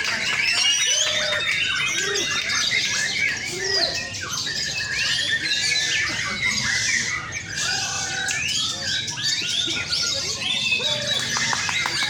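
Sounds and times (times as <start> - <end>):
chorus of birds singing: 0.0 - 12.0.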